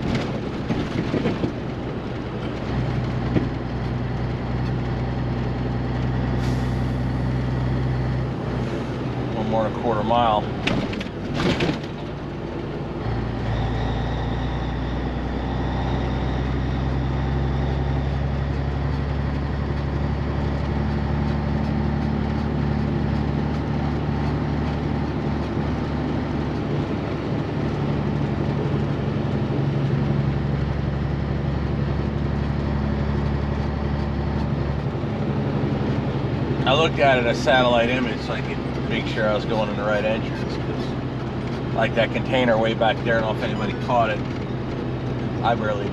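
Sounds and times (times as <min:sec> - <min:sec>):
diesel truck engine drone: 0:00.0 - 0:45.9.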